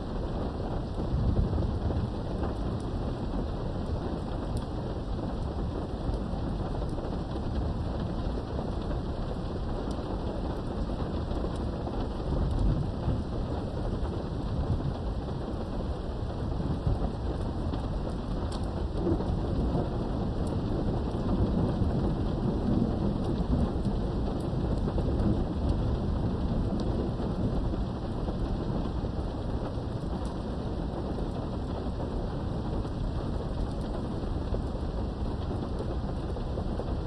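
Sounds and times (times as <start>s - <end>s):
heavy rain behind a window: 0.0s - 37.0s
low thunder rumbling: 0.0s - 37.0s.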